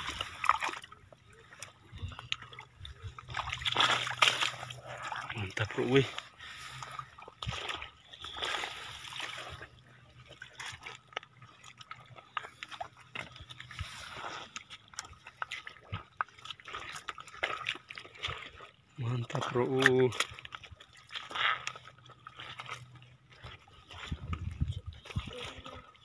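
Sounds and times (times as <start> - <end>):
shallow water splashing: 0.0 - 26.0.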